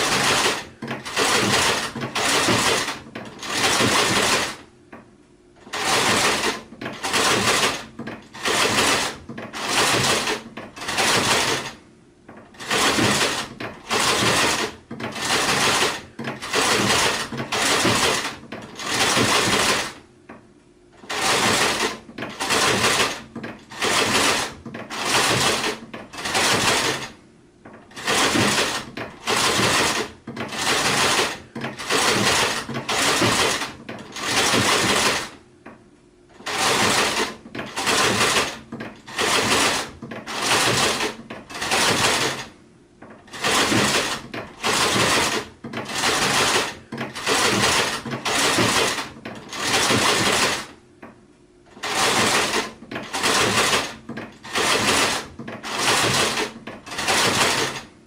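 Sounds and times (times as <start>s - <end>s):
sewing machine stitching: 0.0s - 4.7s, 5.6s - 20.1s, 21.0s - 35.4s, 36.3s - 50.8s, 51.7s - 58.0s.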